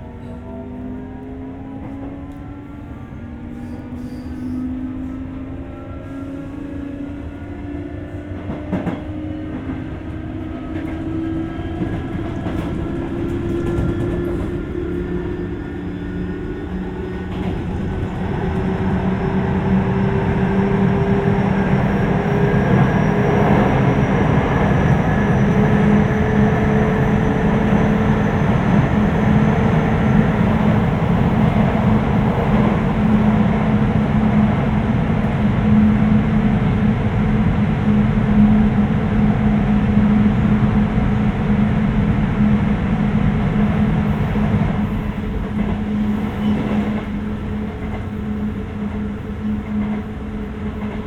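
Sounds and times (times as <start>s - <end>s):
wheel and rail rumble: 6.2s - 51.0s.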